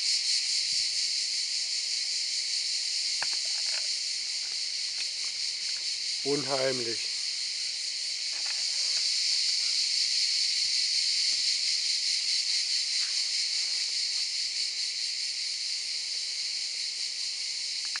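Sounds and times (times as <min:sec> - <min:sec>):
chorus of cicadas: 0:00.0 - 0:18.0.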